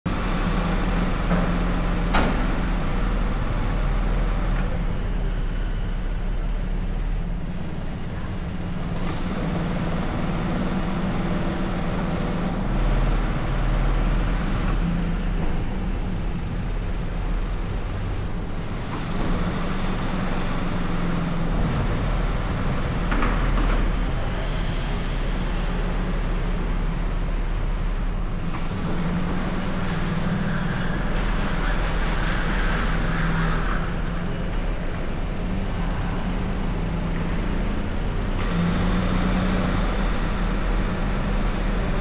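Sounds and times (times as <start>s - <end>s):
car engine hum: 0.1s - 19.0s, 19.9s - 42.0s
tyre and road noise: 0.1s - 42.0s.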